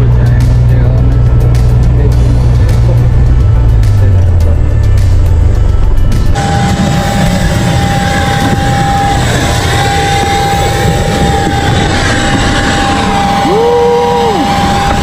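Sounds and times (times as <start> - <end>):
aircraft engine rumble and whine: 0.0 - 15.0.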